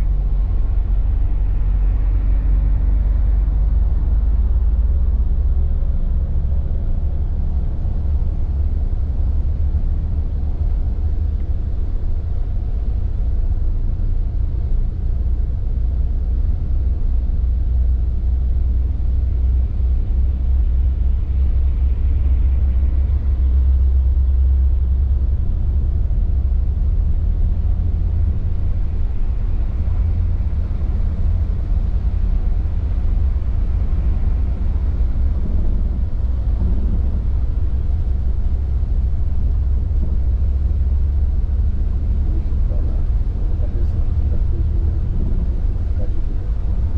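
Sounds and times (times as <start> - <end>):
coach engine rumble: 0.0 - 46.9.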